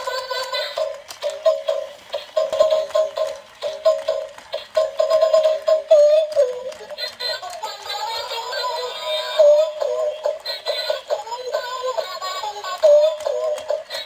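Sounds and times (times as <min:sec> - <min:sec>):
toy playing synthesized song: 0:00.0 - 0:14.0.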